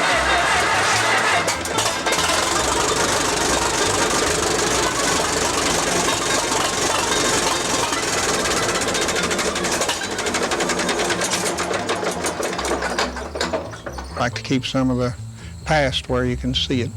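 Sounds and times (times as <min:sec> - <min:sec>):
tractor engine knocking: 0:00.0 - 0:16.9.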